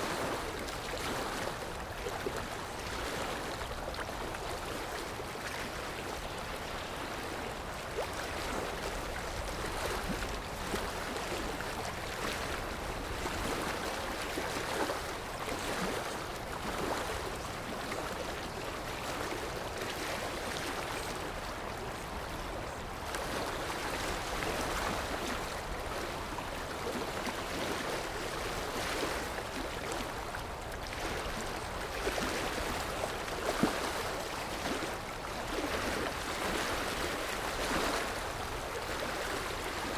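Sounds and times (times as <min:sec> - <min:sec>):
waves washing on a shore: 0:00.0 - 0:39.9.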